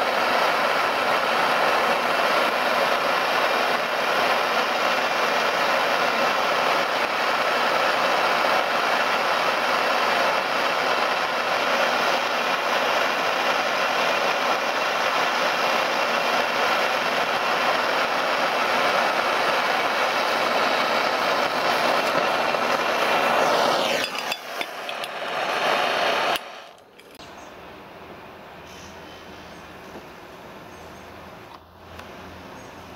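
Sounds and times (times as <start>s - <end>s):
gas torch hissing: 0.0s - 27.4s.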